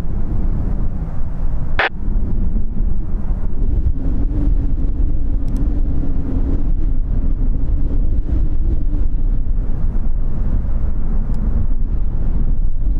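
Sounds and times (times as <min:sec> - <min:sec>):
turboprop engines humming: 0:00.0 - 0:12.9
wind buffeting microphone: 0:00.0 - 0:12.9.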